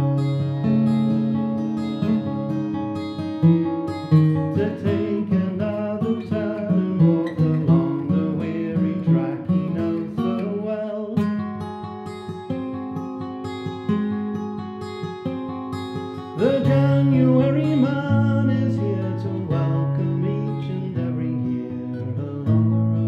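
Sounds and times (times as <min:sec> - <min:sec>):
fingerpicked acoustic guitar: 0:00.0 - 0:23.0.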